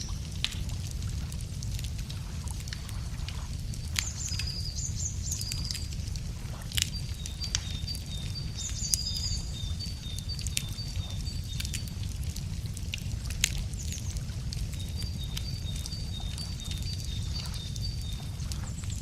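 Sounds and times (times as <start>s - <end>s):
songbirds singing: 0.0s - 1.0s, 2.8s - 19.0s
wood fire crackling and popping: 0.0s - 19.0s.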